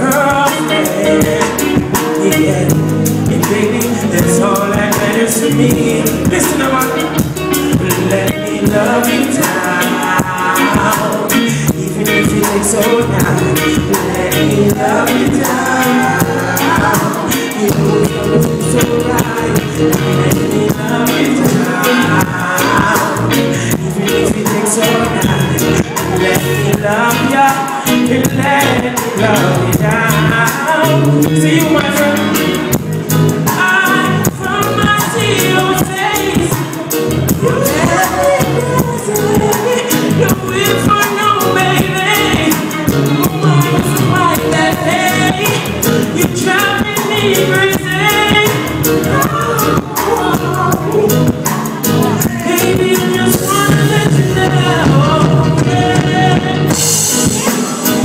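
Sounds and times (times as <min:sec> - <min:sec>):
drums: 0:00.0 - 0:58.0
electric guitar: 0:00.0 - 0:58.0
man singing: 0:00.0 - 0:58.0.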